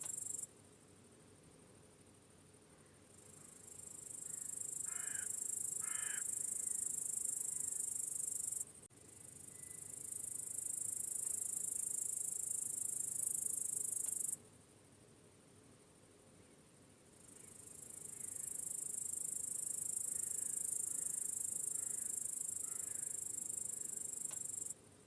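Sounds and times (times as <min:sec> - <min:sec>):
crickets chirring: 0:00.0 - 0:02.3, 0:03.1 - 0:14.4, 0:17.2 - 0:24.8.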